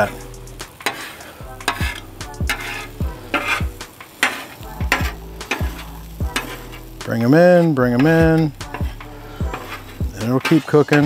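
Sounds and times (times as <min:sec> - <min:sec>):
eggs sizzling in grease: 0:00.0 - 0:11.0
spatula scraping on griddle: 0:00.0 - 0:11.0.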